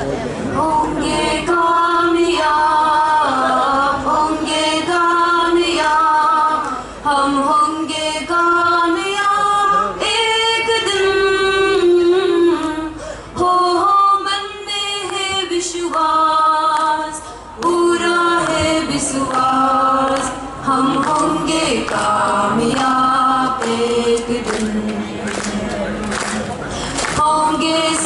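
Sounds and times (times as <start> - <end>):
women singing together: 0.5 - 25.6, 27.1 - 28.0.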